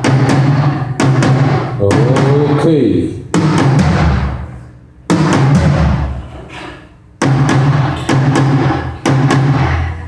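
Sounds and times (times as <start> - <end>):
drum tom hits ringing: 0.0 - 4.5, 5.1 - 6.4, 7.2 - 9.9.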